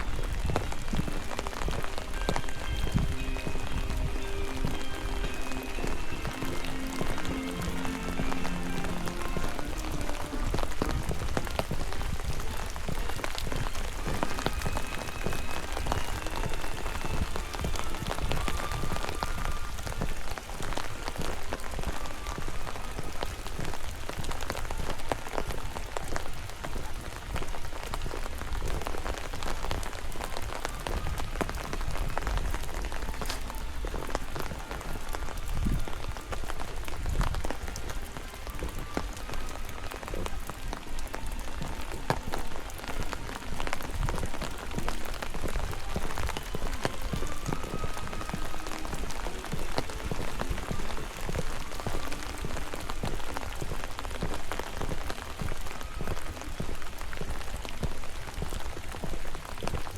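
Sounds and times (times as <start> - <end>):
raindrops ticking close by: 0.0 - 59.9
steady rain hiss: 0.0 - 59.9.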